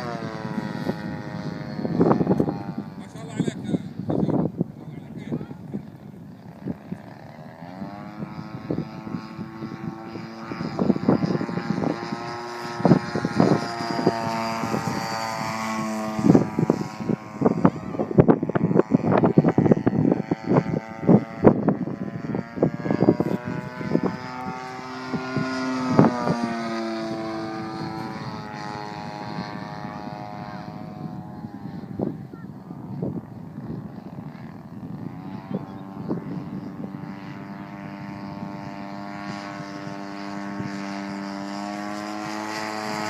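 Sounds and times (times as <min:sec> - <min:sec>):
model plane motor and propeller: 0:00.0 - 0:43.0.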